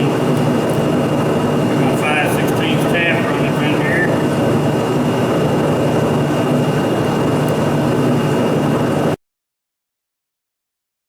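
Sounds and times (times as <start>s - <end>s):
high-pitched machine whine: 0.0s - 9.2s
milling machine running: 0.0s - 9.2s.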